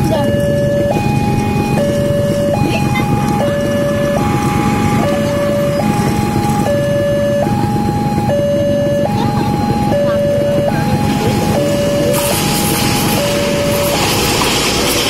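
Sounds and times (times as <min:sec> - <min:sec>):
level crossing two-tone alarm: 0:00.0 - 0:15.0
steady low rumble: 0:00.0 - 0:15.0.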